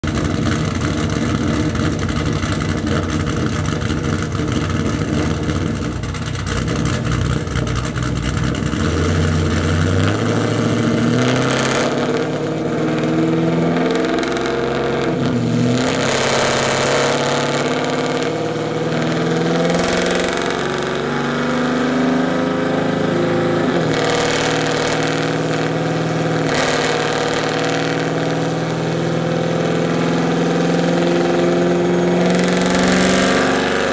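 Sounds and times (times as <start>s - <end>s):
car engine revving on dyno: 0.0s - 33.9s.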